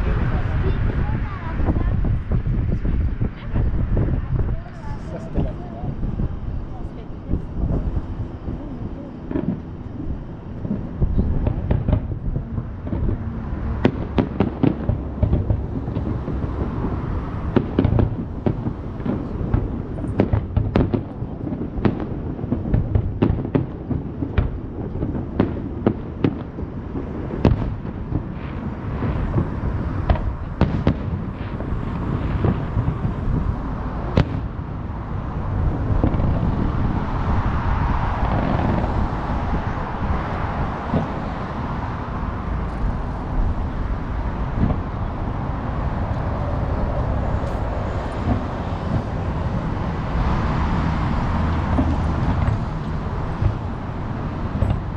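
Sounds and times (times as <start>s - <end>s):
fireworks bangs and crackles: 0.0s - 54.9s
low rumble of bursts: 0.0s - 54.9s.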